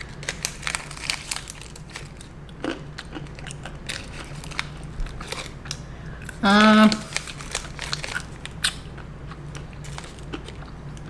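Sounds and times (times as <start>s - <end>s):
almonds crunching while chewed: 0.1s - 11.0s.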